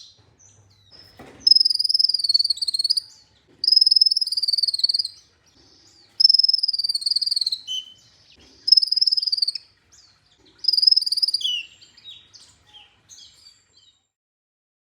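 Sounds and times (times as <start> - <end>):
bird chirps: 0.0 - 14.1
buzzy trilled birdsong: 0.0 - 14.2.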